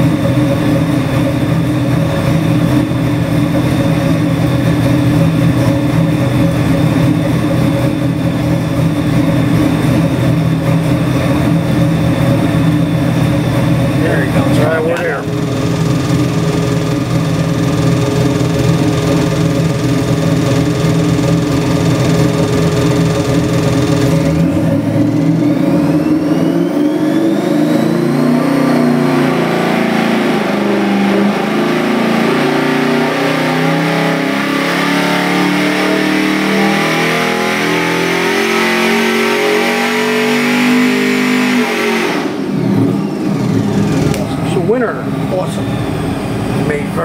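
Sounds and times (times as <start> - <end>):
engine revving under load: 0.0 - 47.0
high whine: 0.0 - 47.0.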